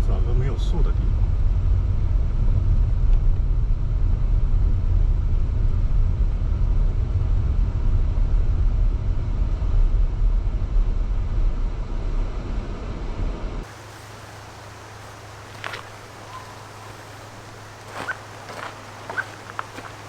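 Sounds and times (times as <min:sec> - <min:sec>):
car road and engine rumble: 0:00.1 - 0:20.0.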